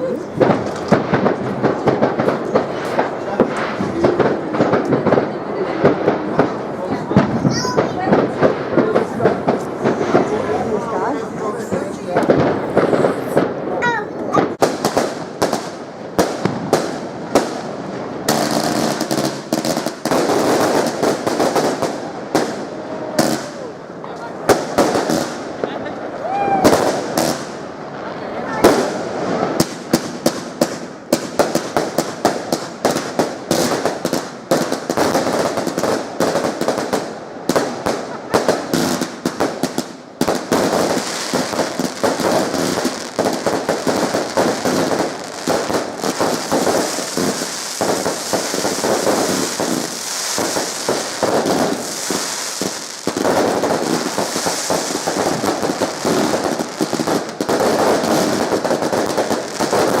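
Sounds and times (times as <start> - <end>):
fireworks cracking and popping: 0.0 - 60.0.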